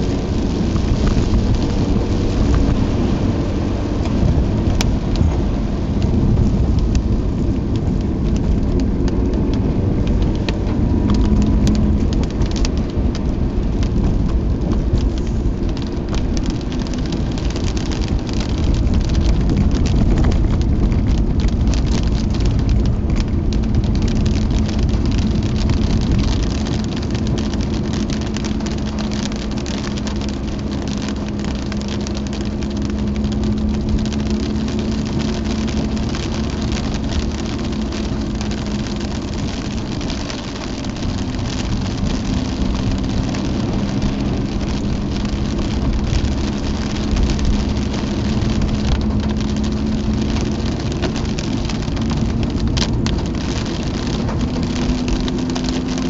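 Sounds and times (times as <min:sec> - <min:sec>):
car engine running: 0:00.0 - 0:56.0
raindrops ticking on car: 0:00.0 - 0:56.0
tyres on wet road: 0:00.0 - 0:56.0.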